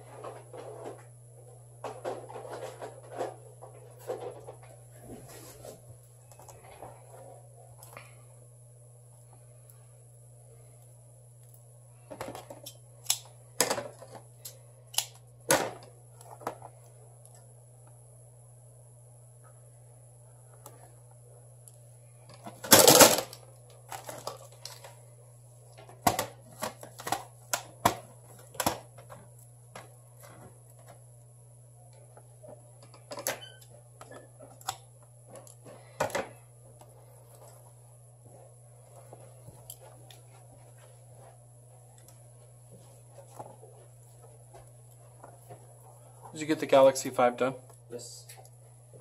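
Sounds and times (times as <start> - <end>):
steady electrical hum: 0.0 - 49.0.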